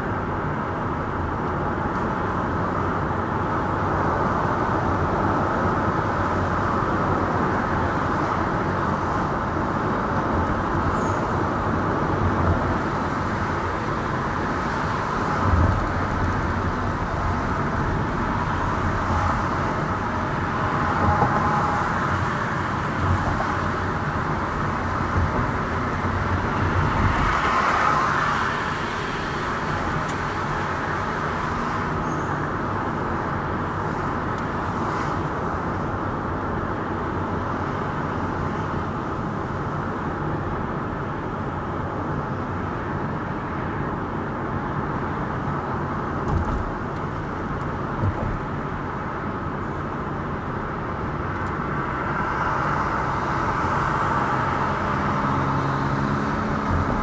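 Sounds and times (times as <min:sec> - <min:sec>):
road and tyre noise: 0:00.0 - 0:57.0.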